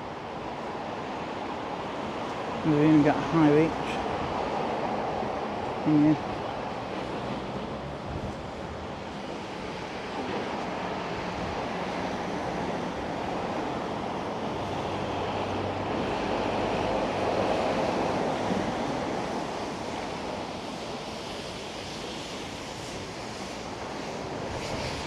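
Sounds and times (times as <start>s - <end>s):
wind buffeting microphone: 2.6s - 25.0s.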